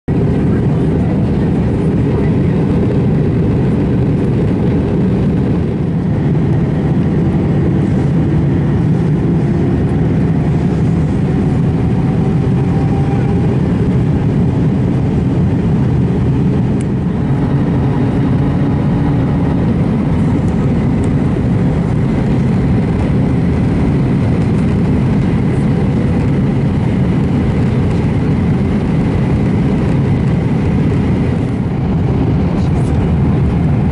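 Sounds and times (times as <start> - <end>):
jet engine rumble and airflow: 0.0 - 33.9
faint whine: 0.1 - 33.9.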